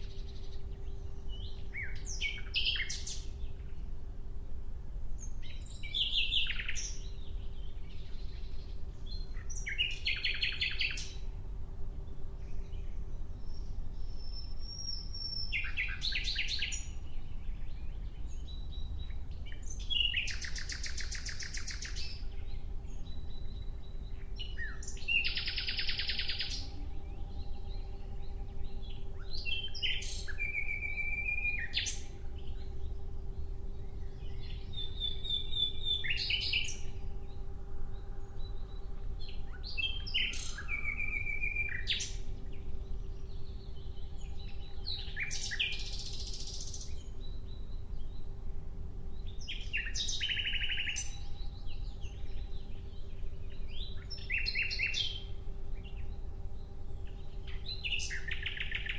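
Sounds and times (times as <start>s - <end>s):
nightingale singing: 0.0s - 3.9s, 5.2s - 11.4s, 12.0s - 58.9s
faint steady hum: 0.0s - 58.9s.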